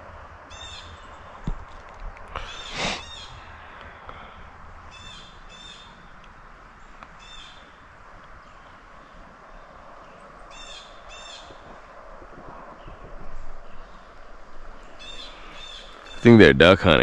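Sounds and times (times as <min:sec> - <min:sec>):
steady background hiss: 0:00.0 - 0:17.0
bird calling: 0:00.5 - 0:01.4, 0:02.3 - 0:06.2, 0:06.8 - 0:16.4.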